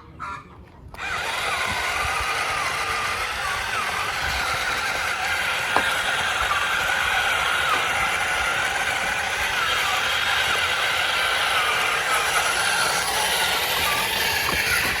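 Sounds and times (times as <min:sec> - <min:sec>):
toy electric motor whine: 0:00.9 - 0:15.0.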